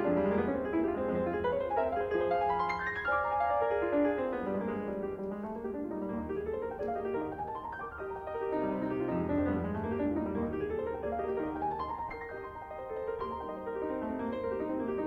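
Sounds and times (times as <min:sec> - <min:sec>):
piano music with flowing runs: 0:00.0 - 0:15.0.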